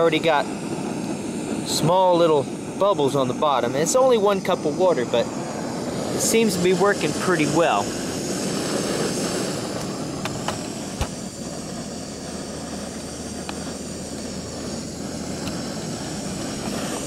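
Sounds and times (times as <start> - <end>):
camping stove burner rushing: 0.0 - 17.0.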